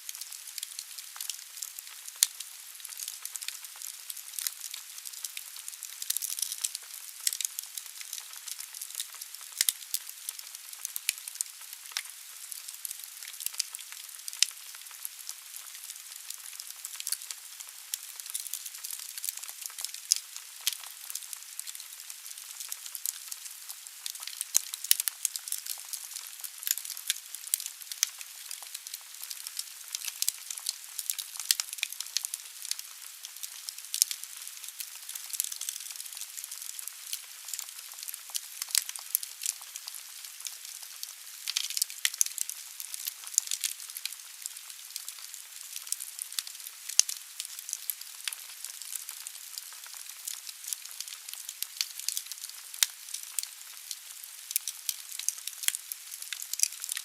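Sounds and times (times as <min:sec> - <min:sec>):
wood fire crackling in a fireplace: 0:00.0 - 0:57.0.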